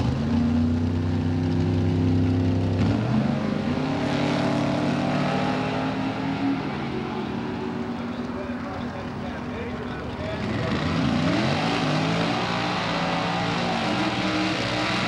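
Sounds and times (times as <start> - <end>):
drag-race car engines revving: 0.0 - 15.0
cars accelerating past: 1.5 - 9.4, 10.2 - 15.0.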